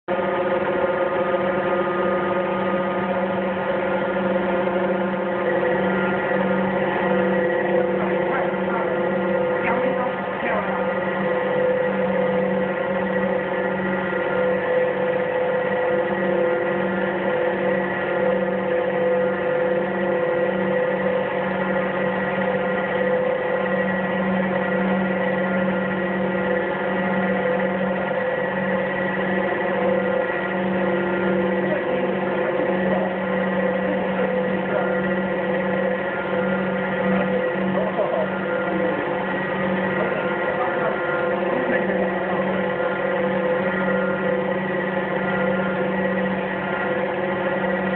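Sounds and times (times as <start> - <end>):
wire saw machine hum: 0.0 - 47.9
wavering whine: 0.1 - 47.9.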